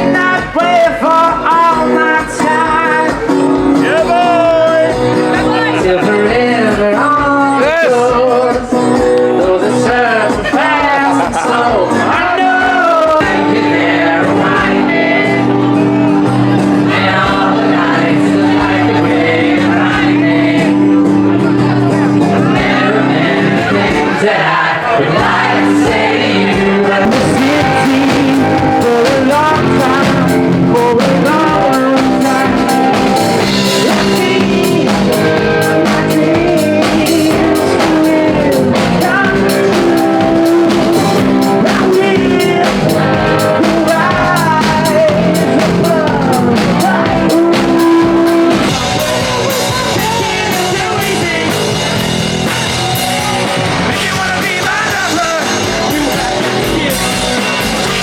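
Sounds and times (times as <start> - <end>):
rock music with singer: 0.0 - 58.0.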